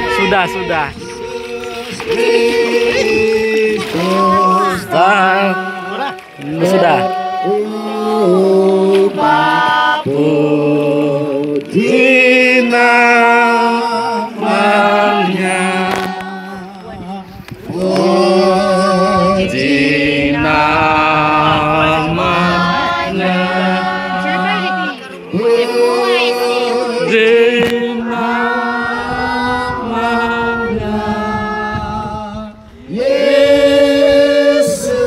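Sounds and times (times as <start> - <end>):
voices singing slow hymn: 0.0 - 35.0.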